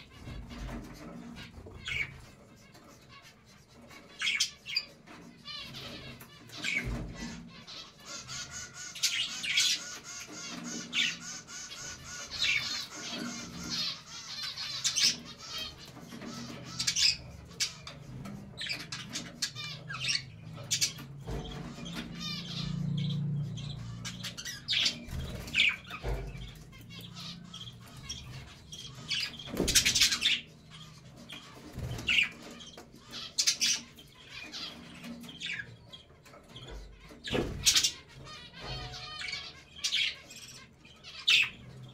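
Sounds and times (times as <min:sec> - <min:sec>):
bird chirps and squawks: 0:00.0 - 0:41.9
budgerigars chattering: 0:00.0 - 0:41.9.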